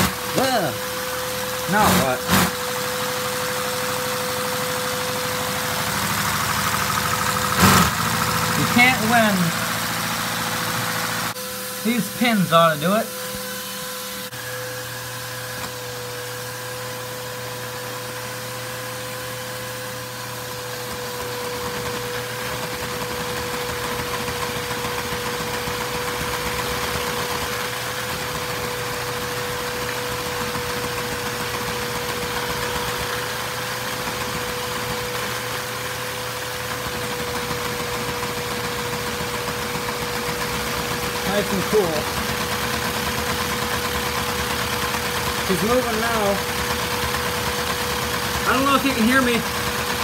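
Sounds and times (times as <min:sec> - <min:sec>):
vacuum cleaner whine: 0:00.0 - 0:50.0.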